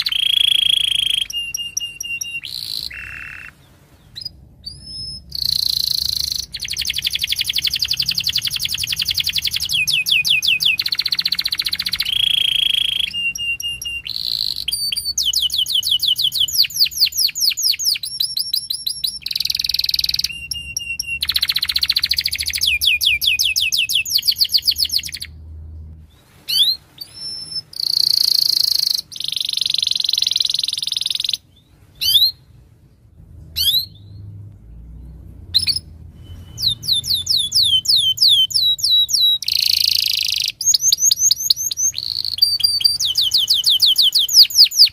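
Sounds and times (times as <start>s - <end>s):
canary singing trills: 0.0s - 25.4s, 26.1s - 44.9s.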